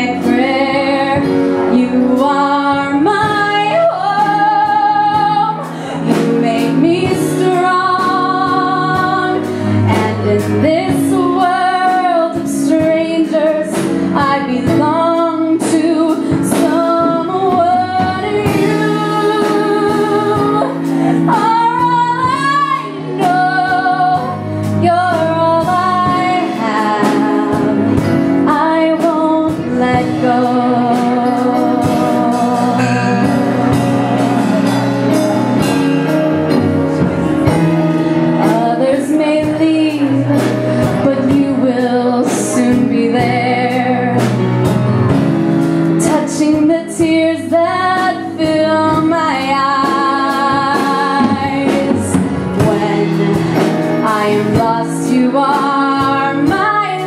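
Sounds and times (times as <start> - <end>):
woman singing a ballad: 0.0 - 34.8, 38.3 - 44.8, 45.9 - 57.0
band accompaniment: 0.0 - 57.0.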